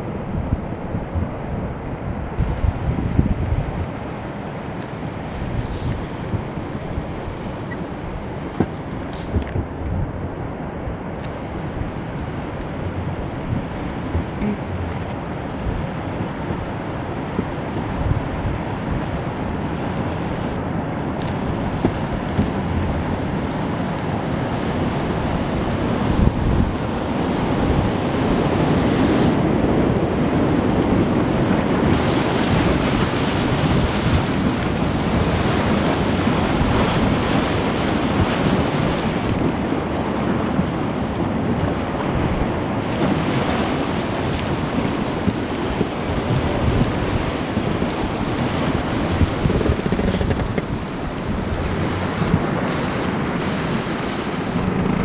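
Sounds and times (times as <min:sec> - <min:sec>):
wind buffeting microphone: 0:00.0 - 0:55.0
river rapids rushing: 0:03.8 - 0:55.0.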